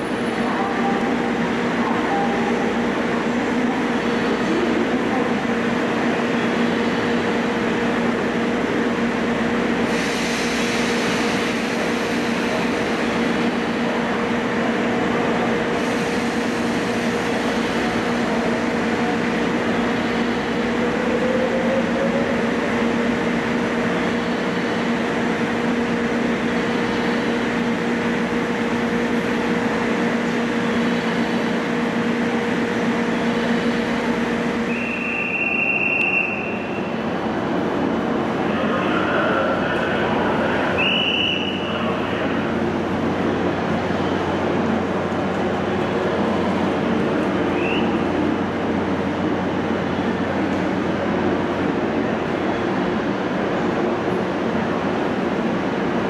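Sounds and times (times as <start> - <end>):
electric train humming: 0.0 - 56.0.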